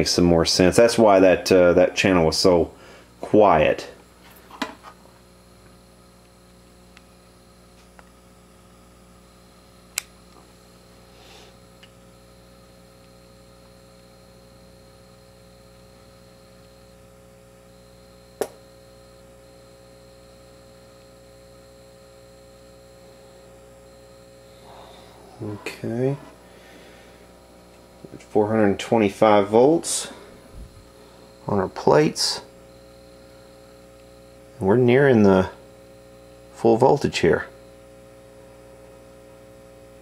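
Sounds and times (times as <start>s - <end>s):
electrical mains hum: 0.0s - 40.0s
faint high whine: 0.0s - 40.0s.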